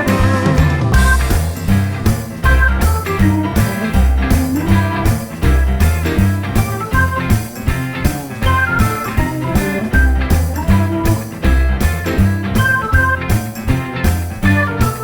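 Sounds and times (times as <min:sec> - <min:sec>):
guitar-led rock music with drums: 0:00.0 - 0:15.0.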